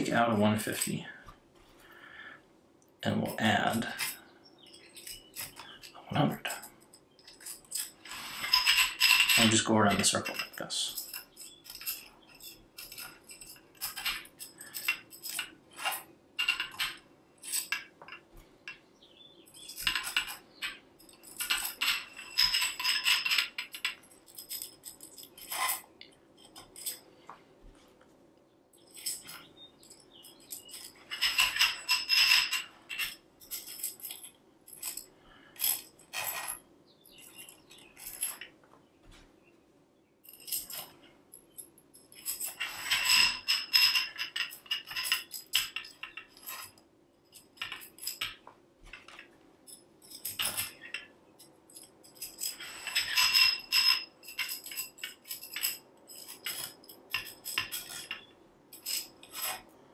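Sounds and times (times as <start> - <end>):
metal tubes clinking: 3.2 - 27.2, 28.8 - 38.5, 40.2 - 59.8
metal hooks clicking: 3.5 - 18.8, 19.5 - 27.0, 28.8 - 38.5, 40.2 - 59.7.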